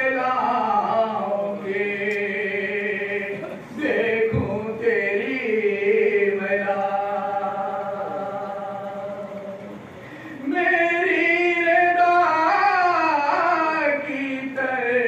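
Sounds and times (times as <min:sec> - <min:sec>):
reciter on a microphone: 0:00.0 - 0:15.0.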